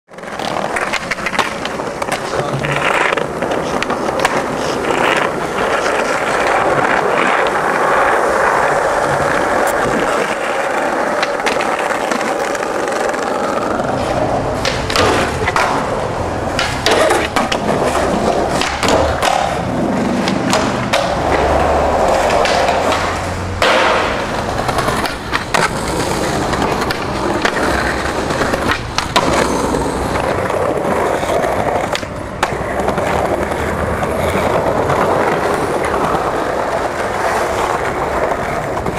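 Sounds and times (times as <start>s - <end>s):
skateboard clacking: 0.1s - 38.9s
skateboard wheels rolling on pavement: 0.1s - 38.9s.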